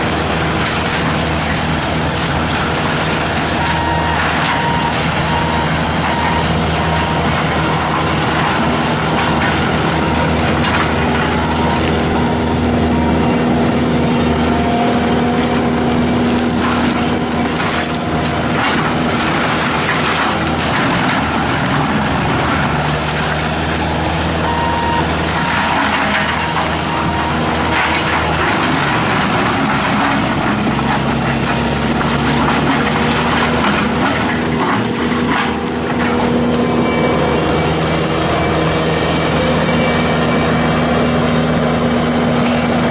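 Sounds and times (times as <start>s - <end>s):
knocks and crackles: 0.0s - 12.8s, 15.3s - 42.9s
diesel engine running under load: 0.0s - 42.9s.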